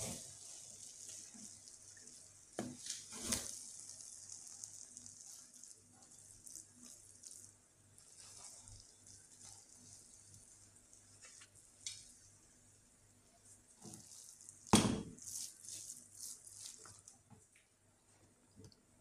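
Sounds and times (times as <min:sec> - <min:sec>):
wooden spoon stirring rice in pot: 0:00.0 - 0:17.5
faint steady hiss: 0:00.0 - 0:19.0.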